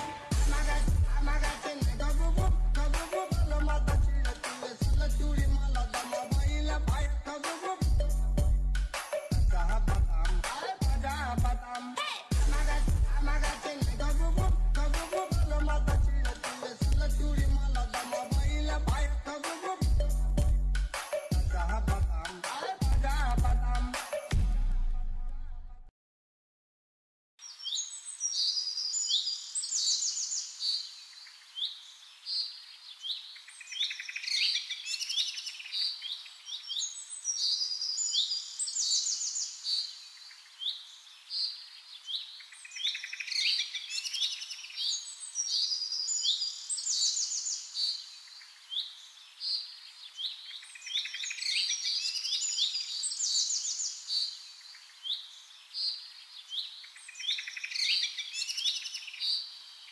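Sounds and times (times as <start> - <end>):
songbirds chirping and trilling: 0.0 - 24.0, 27.4 - 59.9.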